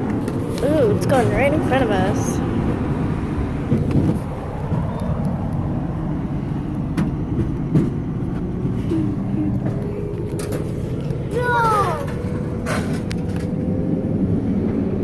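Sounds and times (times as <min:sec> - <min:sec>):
large vehicle engine running: 0:00.0 - 0:15.0.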